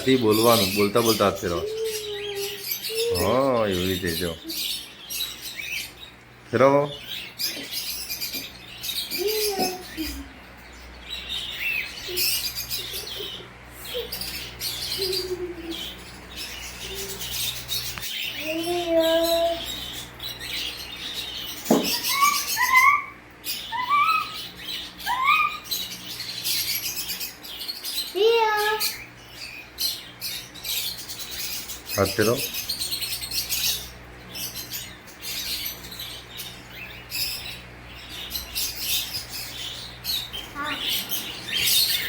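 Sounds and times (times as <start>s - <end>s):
cockatiels chirping: 0.0s - 42.0s.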